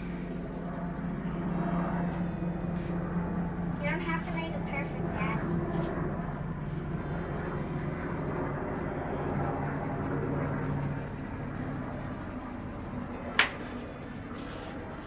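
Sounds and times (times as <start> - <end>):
markers scratching on paper: 0.0 - 6.0, 6.6 - 15.0
steady low hum: 0.0 - 15.0.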